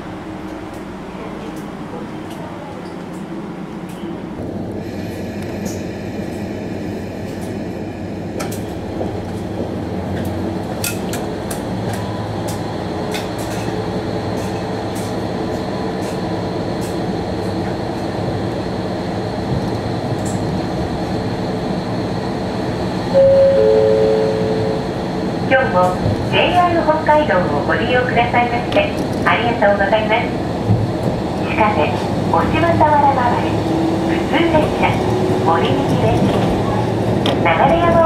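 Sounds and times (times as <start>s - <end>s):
diesel train engine running: 0.0s - 38.0s.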